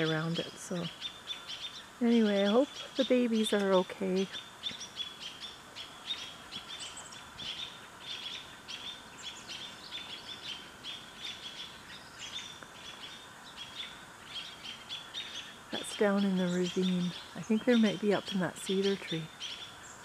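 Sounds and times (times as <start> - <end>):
songbird alarm chirps: 0.0 - 20.0.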